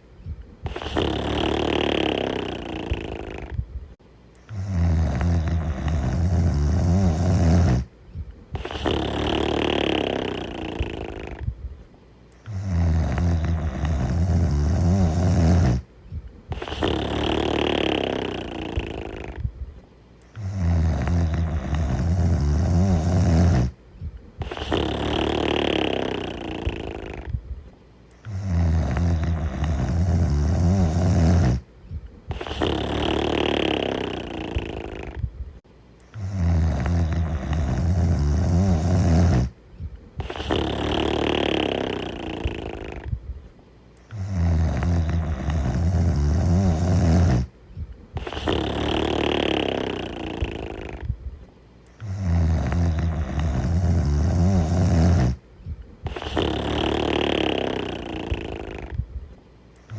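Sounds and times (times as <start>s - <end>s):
loud snoring: 0.6s - 3.6s, 4.4s - 7.9s, 8.5s - 11.5s, 12.4s - 15.9s, 16.5s - 19.5s, 20.3s - 23.8s, 24.4s - 27.4s, 28.2s - 31.7s, 32.3s - 35.3s, 36.1s - 39.6s, 40.2s - 43.2s, 44.0s - 47.6s, 48.2s - 51.2s, 51.9s - 55.4s, 56.0s - 59.0s.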